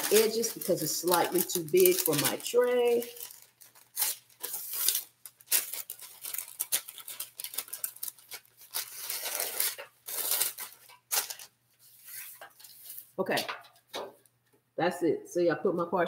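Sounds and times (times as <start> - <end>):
parchment paper rustling: 0.0 - 14.4.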